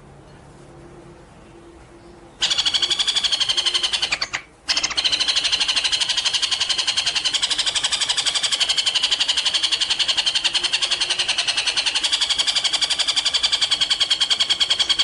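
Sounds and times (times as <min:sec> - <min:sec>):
songbird trilling: 0:02.0 - 0:15.0.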